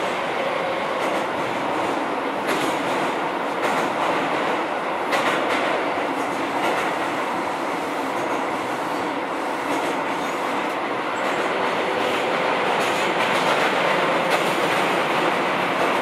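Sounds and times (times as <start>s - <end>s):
rail joint clicks: 0.0s - 16.0s
train wheels rumbling on rail: 0.0s - 16.0s.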